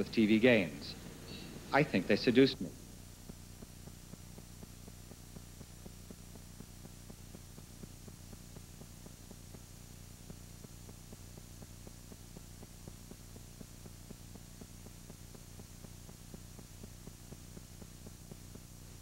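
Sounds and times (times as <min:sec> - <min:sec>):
faint low hum and hiss: 0:00.0 - 0:19.0
crackling ticks: 0:02.6 - 0:19.0.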